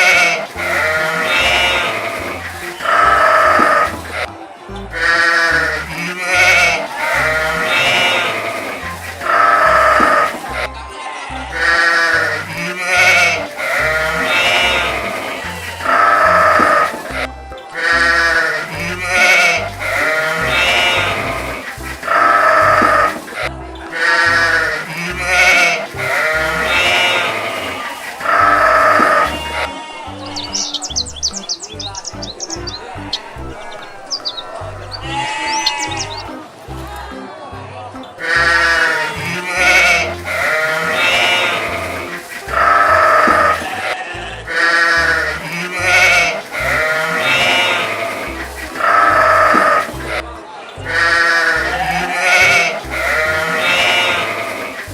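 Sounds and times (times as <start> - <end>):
sheep or goat bleating: 0.0 - 4.3, 5.0 - 23.2, 24.0 - 30.6, 35.0 - 36.3, 38.2 - 50.2, 50.9 - 54.8
low bass beat music: 0.0 - 27.4, 34.5 - 47.7, 48.3 - 52.0, 52.8 - 54.0.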